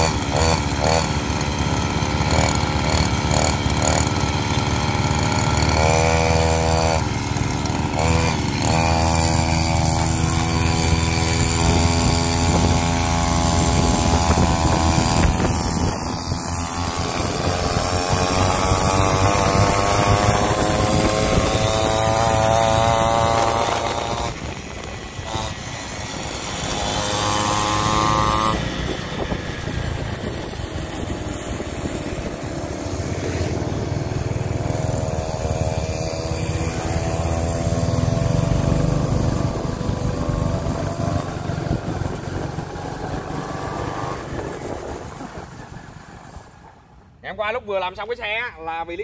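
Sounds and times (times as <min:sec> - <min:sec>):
small motorcycle engine revving: 0:00.0 - 0:47.0.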